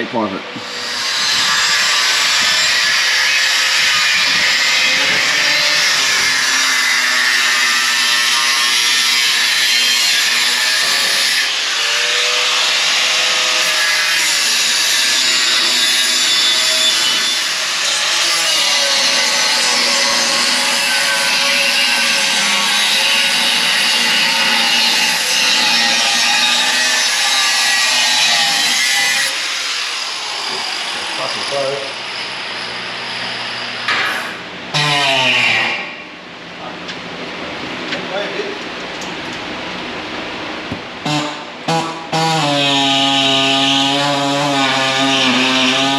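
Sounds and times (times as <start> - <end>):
power tool cutting metal pipe: 0.6 - 36.0, 41.1 - 45.9.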